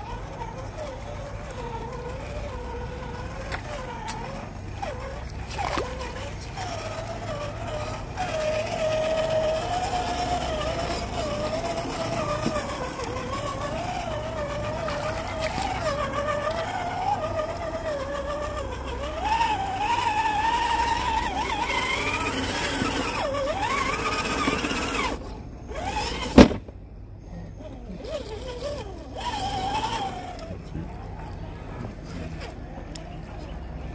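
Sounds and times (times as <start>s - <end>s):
electric motor whining: 0.0s - 26.7s, 27.6s - 33.9s.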